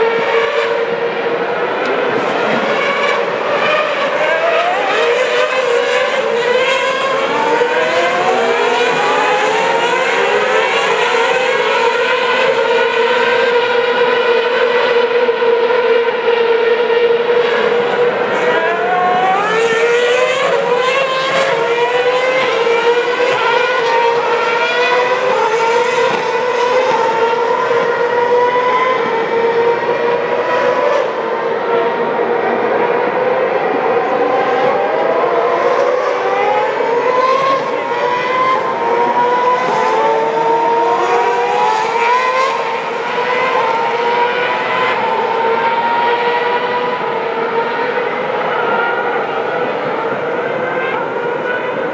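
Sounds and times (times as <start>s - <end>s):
racing car engines: 0.0s - 51.9s.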